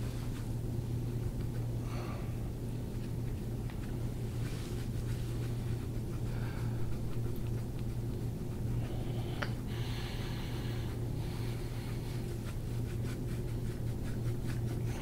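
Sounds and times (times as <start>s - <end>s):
steady low hum: 0.0s - 15.0s
soft breathing: 1.5s - 3.2s, 3.8s - 15.0s.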